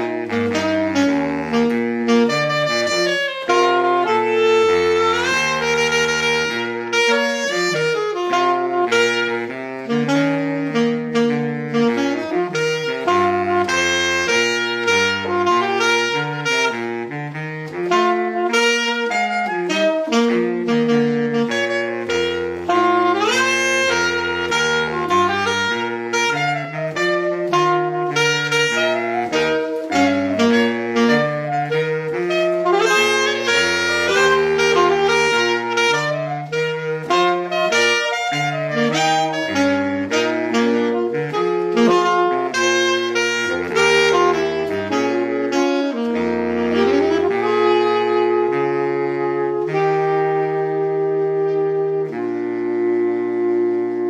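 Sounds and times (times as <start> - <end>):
saxophones playing in harmony: 0.0 - 54.0.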